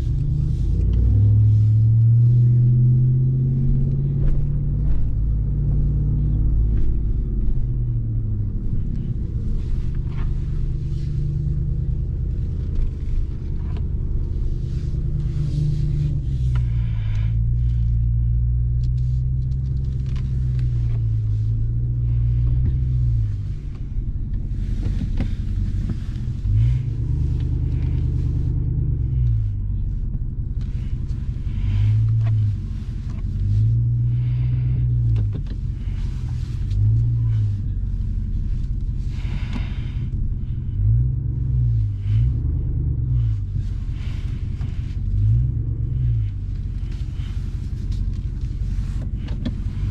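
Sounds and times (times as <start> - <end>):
engine rumble revving: 0.0 - 49.9.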